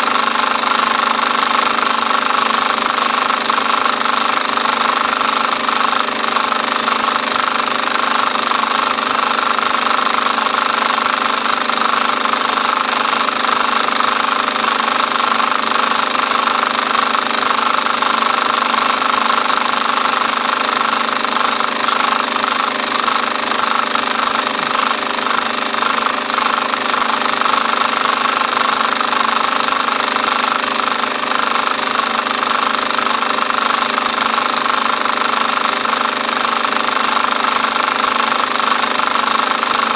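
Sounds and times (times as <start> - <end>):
film projector rattle and hum: 0.0 - 39.9.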